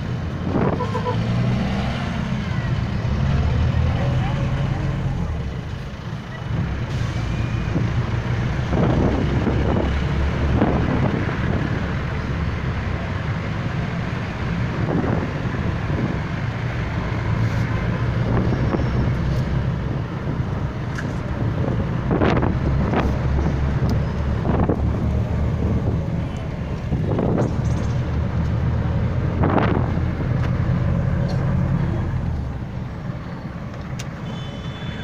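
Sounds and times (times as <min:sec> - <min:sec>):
engine and road rumble: 0:00.0 - 0:35.0.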